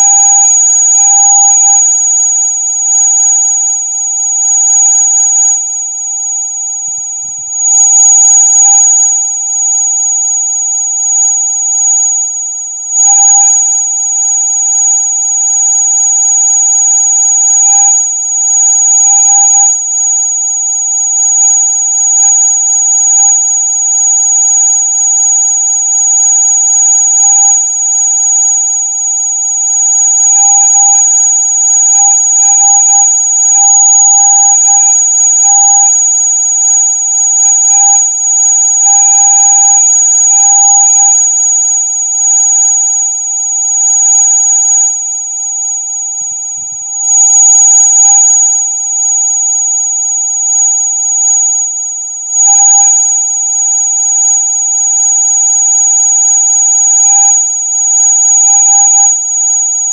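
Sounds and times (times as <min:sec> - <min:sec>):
lower steady electronic tone: 0:00.0 - 0:59.9.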